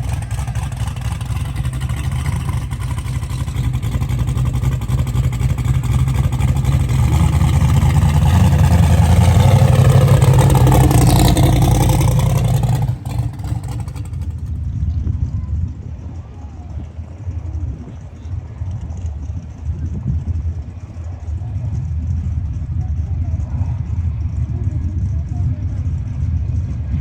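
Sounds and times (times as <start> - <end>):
drag race car engines: 0.0 - 27.0.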